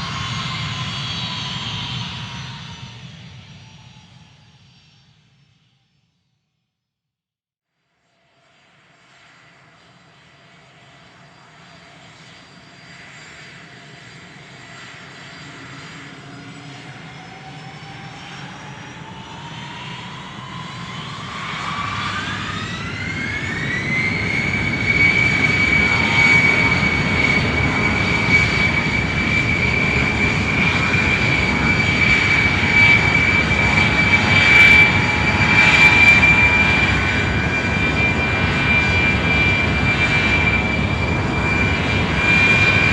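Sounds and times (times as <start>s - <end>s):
jet engines spooling up: 0.0s - 5.1s, 10.8s - 42.9s.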